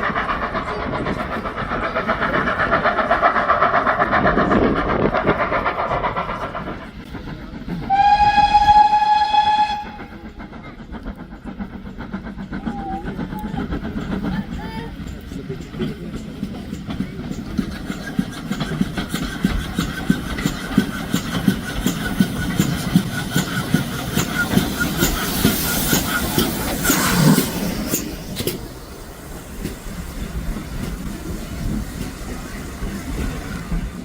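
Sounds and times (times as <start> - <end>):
rushing hiss of passing train: 0.0 - 34.0
train wheels clicking over rail joints: 0.0 - 34.0.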